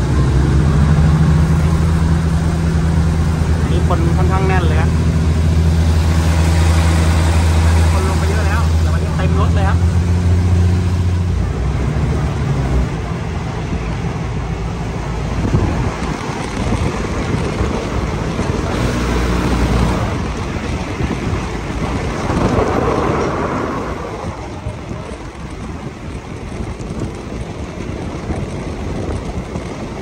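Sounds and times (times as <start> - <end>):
wheels rumbling on rails: 0.0 - 30.0
wind on the microphone: 0.0 - 30.0.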